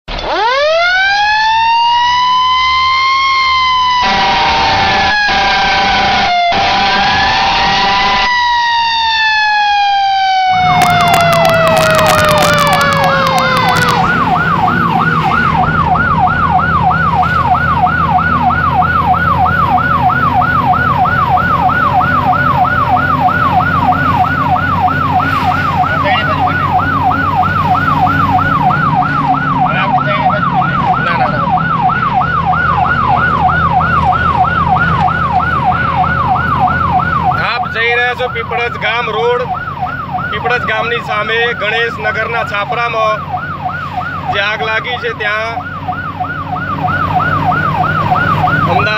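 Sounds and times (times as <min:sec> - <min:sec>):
truck engine drone: 0:00.0 - 0:48.9
fire engine siren wailing: 0:00.1 - 0:48.9
slow falling siren tone: 0:00.1 - 0:48.9.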